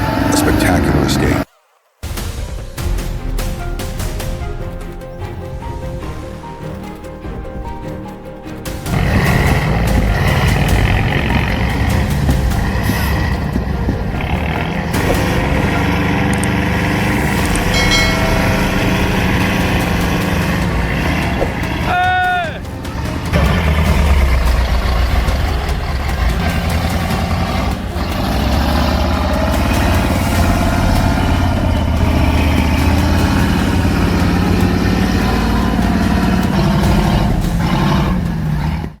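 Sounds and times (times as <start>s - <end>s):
heavy truck engine running: 2.8s - 39.0s.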